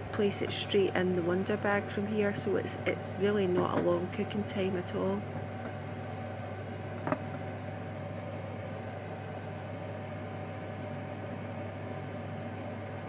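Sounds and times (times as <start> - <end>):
steady hum and hiss: 0.0 - 13.0.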